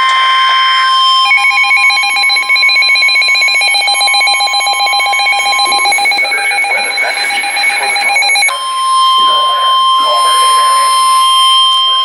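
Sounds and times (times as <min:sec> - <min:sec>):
pulsing electronic warble: 0:00.0 - 0:12.0
steady alert tone: 0:00.0 - 0:12.0.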